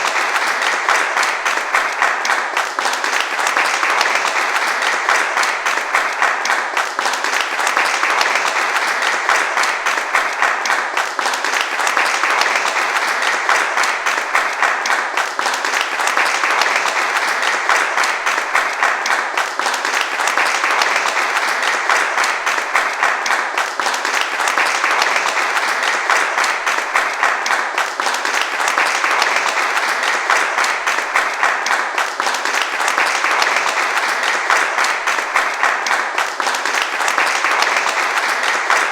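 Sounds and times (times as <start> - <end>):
large crowd applauding: 0.0 - 38.9.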